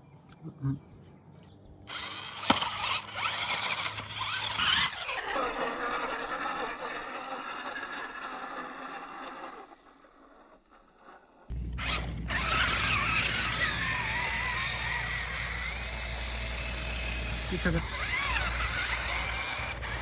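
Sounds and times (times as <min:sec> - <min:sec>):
toy car motor whirring: 0:01.9 - 0:20.0.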